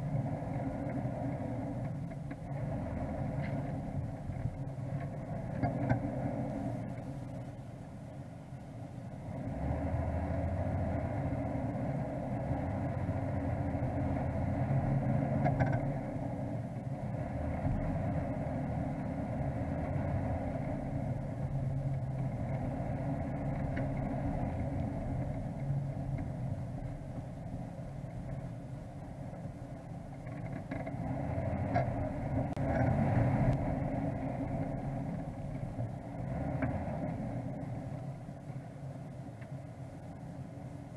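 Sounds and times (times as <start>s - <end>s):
vehicle engine drone: 0.0s - 40.9s.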